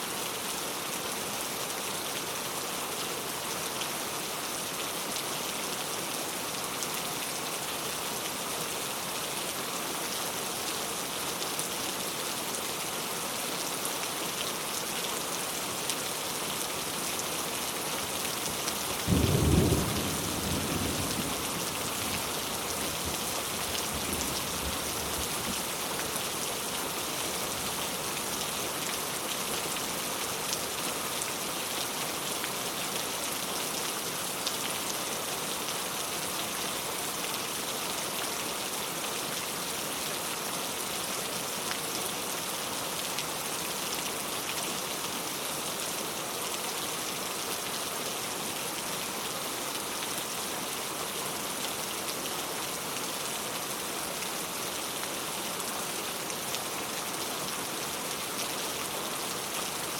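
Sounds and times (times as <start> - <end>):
heavy rain falling: 0.3 - 59.9.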